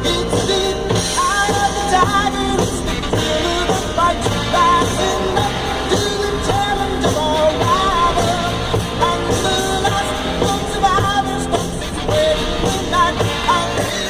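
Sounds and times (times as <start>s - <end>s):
person singing: 0.0s - 14.0s
rock and roll music: 0.0s - 14.0s.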